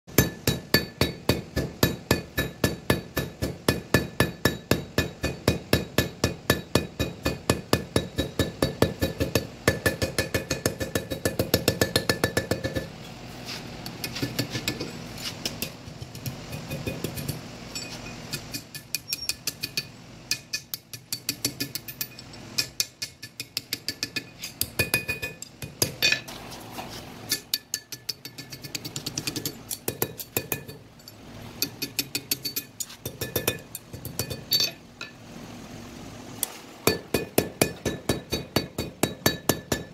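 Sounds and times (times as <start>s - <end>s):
hammer striking steel on anvil: 0.1s - 12.9s, 13.9s - 26.3s, 27.3s - 35.2s, 36.9s - 39.9s.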